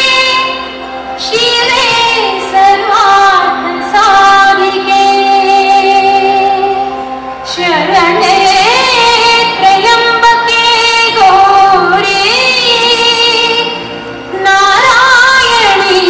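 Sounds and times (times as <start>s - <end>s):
woman singing ornamented lines: 0.0s - 16.0s.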